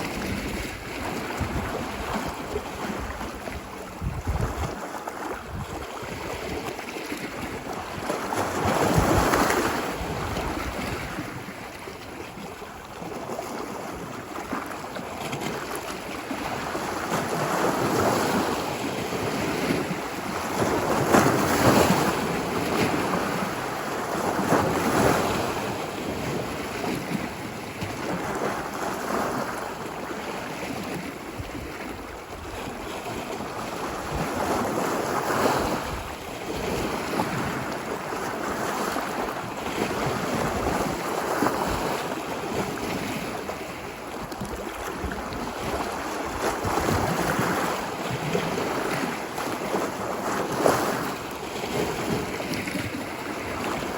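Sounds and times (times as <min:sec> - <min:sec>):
waves breaking on a beach: 0:00.0 - 0:53.9.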